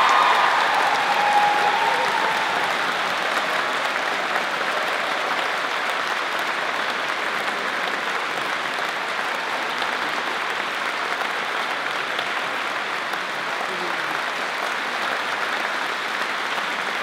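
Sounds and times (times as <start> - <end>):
crowd applause: 0.0 - 17.0.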